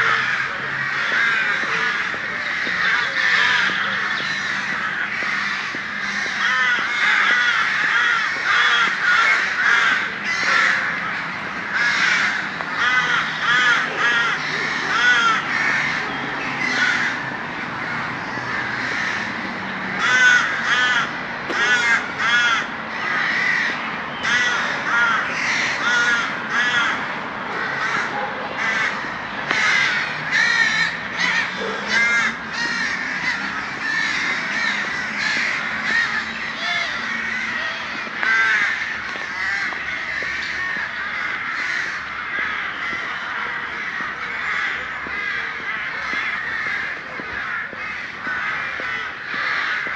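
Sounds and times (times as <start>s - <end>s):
crows cawing: 0.0s - 49.9s.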